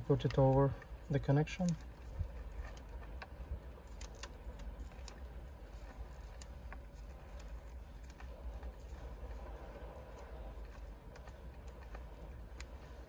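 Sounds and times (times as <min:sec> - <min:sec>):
insulation tape crackling: 0:00.0 - 0:13.0
low steady rumble: 0:00.0 - 0:13.0
wires rustling: 0:00.0 - 0:13.0.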